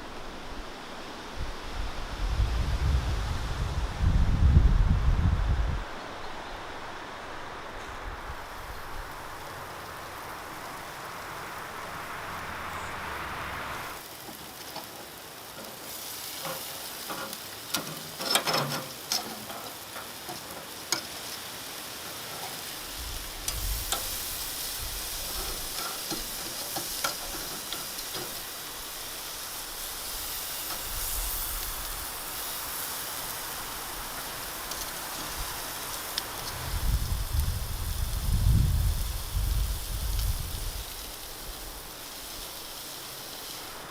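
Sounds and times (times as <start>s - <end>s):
meat sizzling on a grill: 8.2s - 43.9s.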